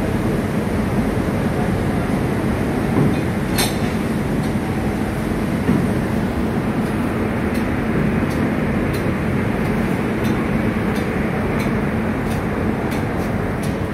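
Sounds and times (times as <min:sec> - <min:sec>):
locomotive machinery drone: 0:00.0 - 0:13.9.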